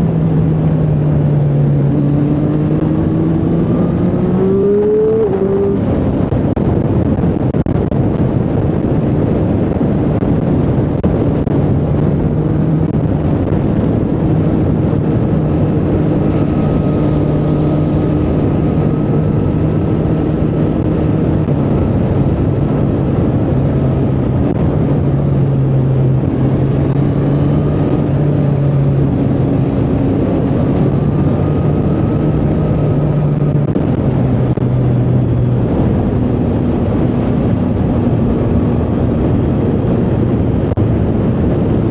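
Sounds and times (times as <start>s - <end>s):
motorcycle engine cruising: 0.0s - 41.9s
wind and road noise: 0.0s - 41.9s.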